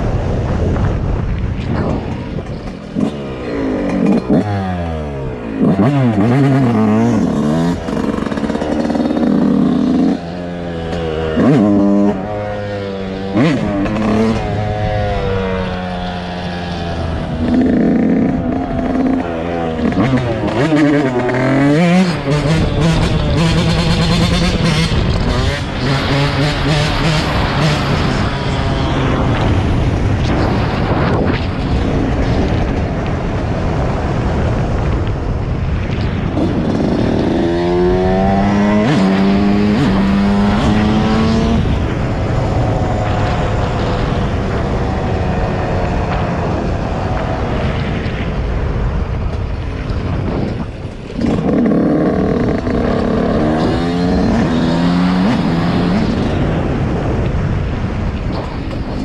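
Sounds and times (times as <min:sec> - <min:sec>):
dirt bike engine accelerating: 0:00.0 - 0:59.0
noisy rush: 0:00.0 - 0:59.0.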